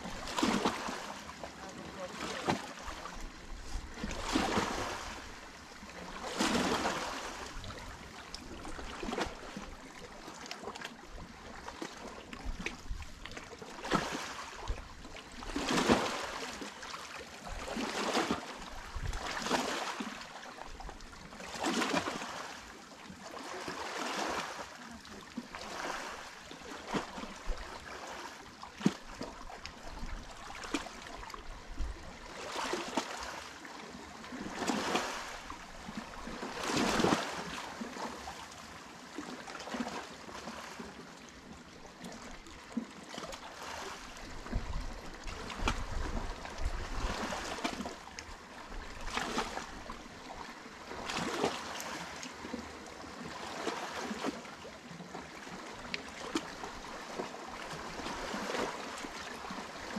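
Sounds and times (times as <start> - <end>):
small waves lapping on rocky shore: 0.0 - 59.9.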